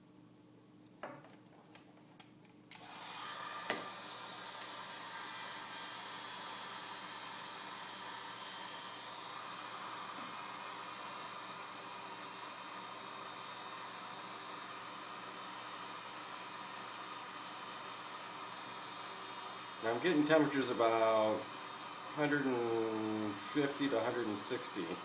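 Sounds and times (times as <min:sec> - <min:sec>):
heat gun hissing: 0:02.8 - 0:25.0.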